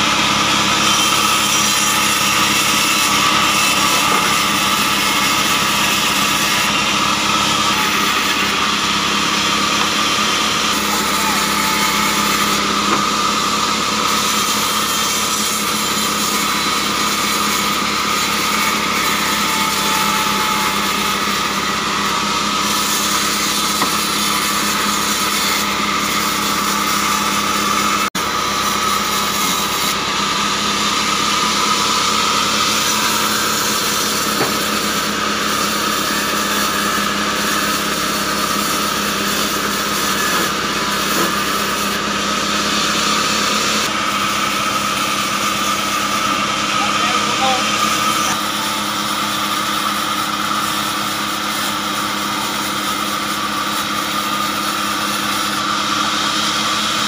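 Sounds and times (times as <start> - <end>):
band saw hum and whine: 0.0 - 57.0.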